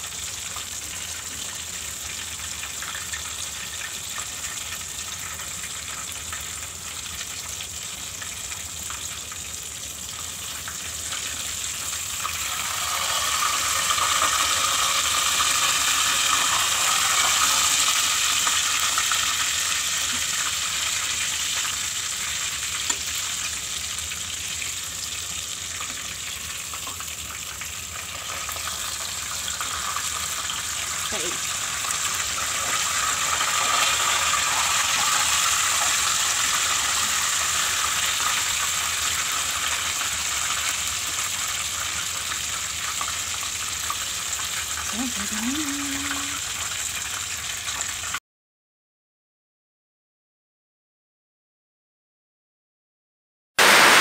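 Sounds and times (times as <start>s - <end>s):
deep-frying oil sizzling: 0.0s - 48.2s, 53.6s - 54.0s.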